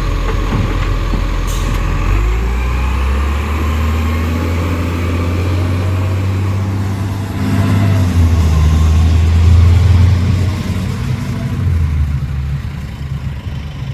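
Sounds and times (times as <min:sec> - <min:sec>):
garbage truck diesel engine: 0:00.0 - 0:13.9.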